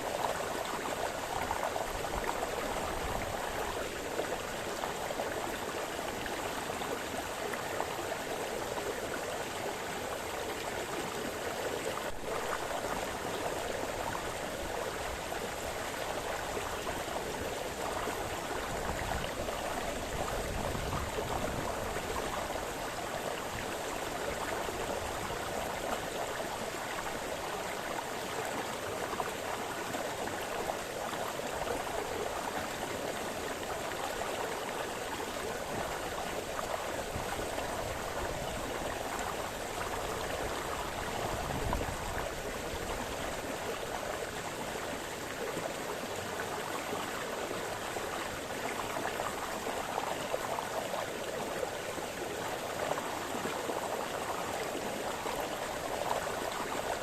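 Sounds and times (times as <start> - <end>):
brook gurgling over stones: 0.0 - 57.0.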